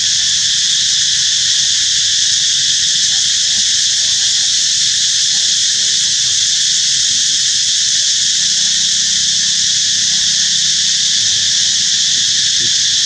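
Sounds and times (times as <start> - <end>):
high-pitched insect chorus drone: 0.0 - 13.0.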